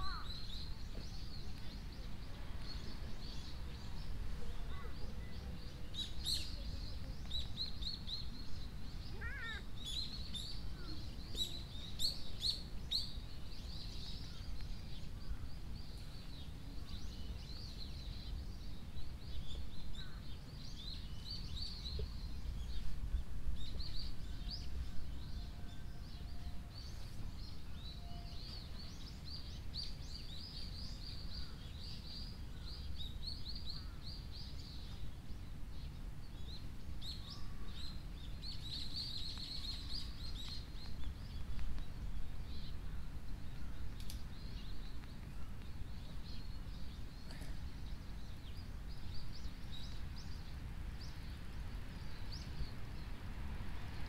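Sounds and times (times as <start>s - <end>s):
small birds chirping: 0.0s - 53.3s.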